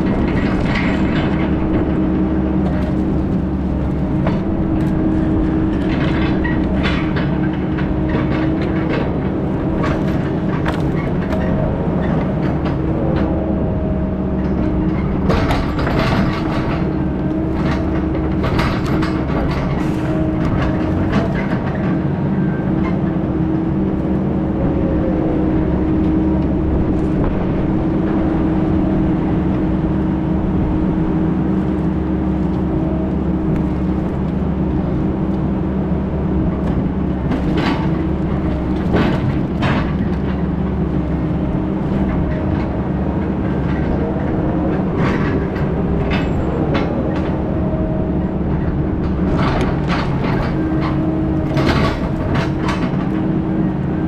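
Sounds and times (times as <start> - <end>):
machine body rattles and knocks: 0.0 - 13.5, 14.3 - 24.0, 31.4 - 47.5, 48.2 - 54.0
heavy diesel engine running: 0.0 - 54.0.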